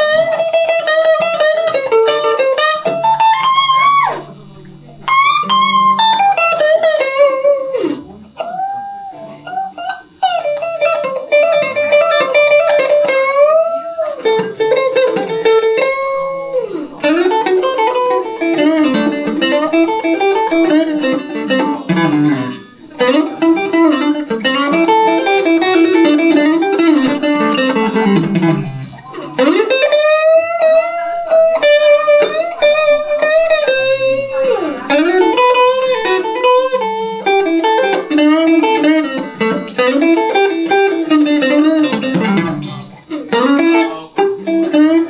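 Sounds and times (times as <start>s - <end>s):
electric guitar blues solo: 0.0s - 45.0s.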